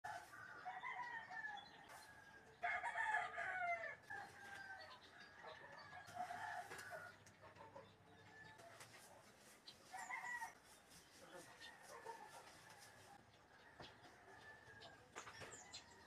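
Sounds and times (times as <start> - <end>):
roosters crowing: 0.1 - 9.0, 9.8 - 10.6, 11.4 - 16.0.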